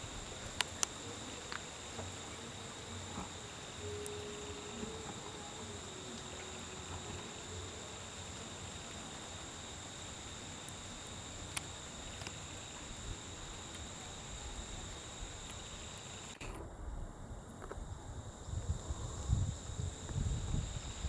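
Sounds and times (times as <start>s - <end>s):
background hiss: 0.0s - 21.0s
insects droning: 0.0s - 21.0s.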